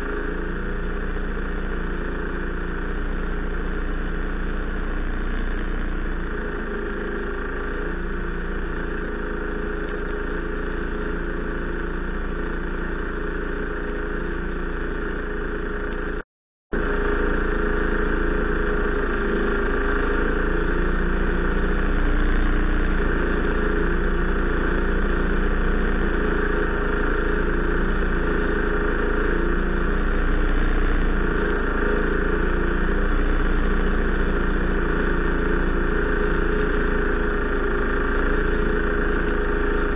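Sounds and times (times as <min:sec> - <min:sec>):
ice auger engine running: 0:00.0 - 0:39.9.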